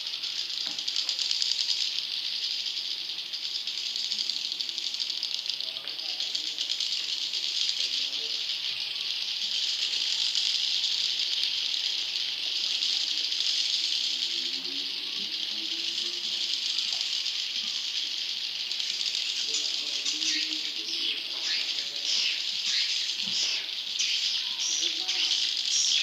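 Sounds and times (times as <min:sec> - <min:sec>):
swiftlet chorus buzzing chatter: 0:00.0 - 0:26.0.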